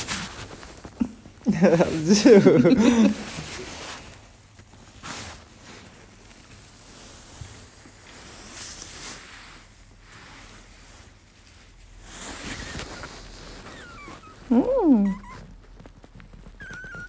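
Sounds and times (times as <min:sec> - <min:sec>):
rustling in wood shavings: 0:00.0 - 0:17.0.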